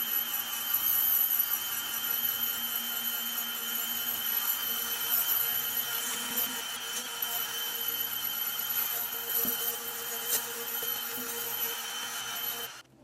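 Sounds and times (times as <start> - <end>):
grinding rust off steel: 0.0 - 12.8
rotary tool whining: 0.0 - 12.9.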